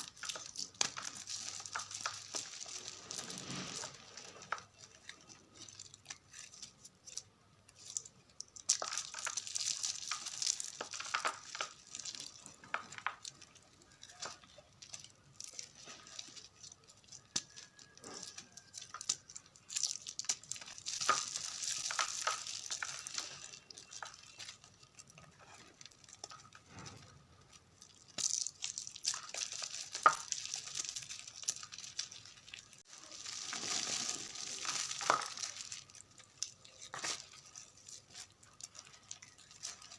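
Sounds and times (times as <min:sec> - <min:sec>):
chalk crumbling and crunching: 0:00.0 - 0:39.9.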